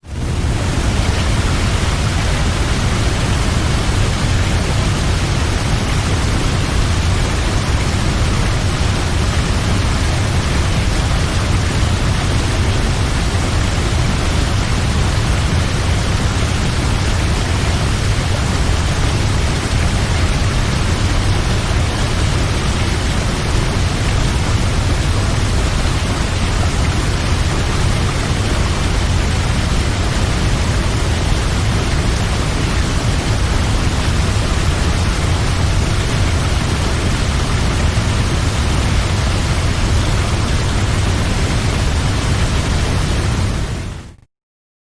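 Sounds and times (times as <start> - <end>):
waterfall rushing: 0.1 - 44.2.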